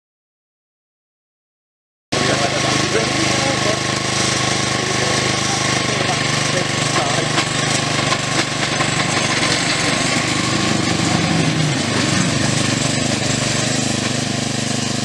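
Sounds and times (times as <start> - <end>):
small locomotive engine running: 2.2 - 15.0.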